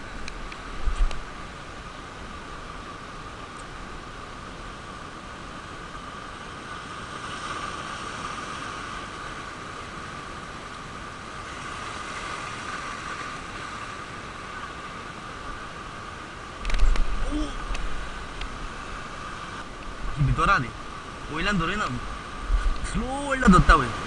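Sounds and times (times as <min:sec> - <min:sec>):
surf washing over rocks: 0:00.0 - 0:24.0.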